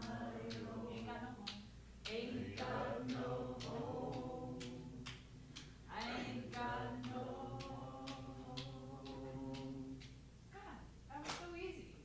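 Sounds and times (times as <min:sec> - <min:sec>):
hand claps: 0:00.0 - 0:10.2, 0:11.2 - 0:11.6
group singing a cappella: 0:00.0 - 0:10.3.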